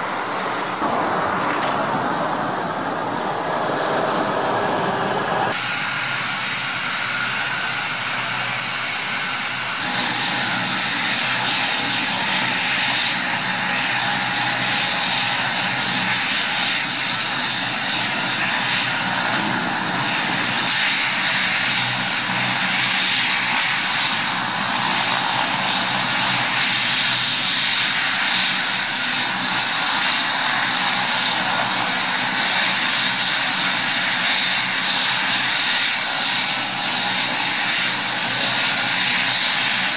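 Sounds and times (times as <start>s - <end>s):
helicopter engines whining: 0.0s - 39.9s.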